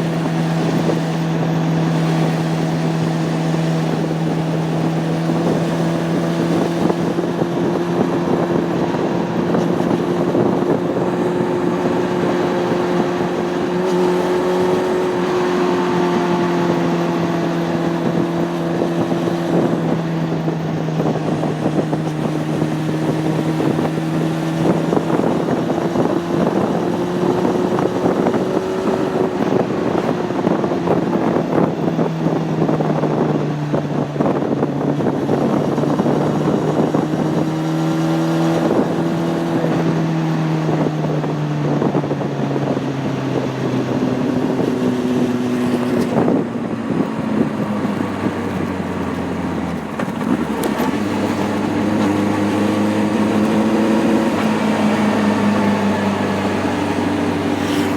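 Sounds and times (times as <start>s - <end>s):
motorcycle engine running: 0.0s - 57.9s
wind rush on microphone: 0.0s - 57.9s.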